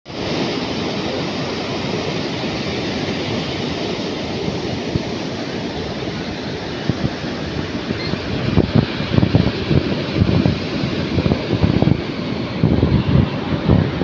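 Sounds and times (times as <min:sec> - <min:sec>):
surf breaking on a beach: 0:00.1 - 0:14.0
wind buffeting microphone: 0:00.1 - 0:14.0.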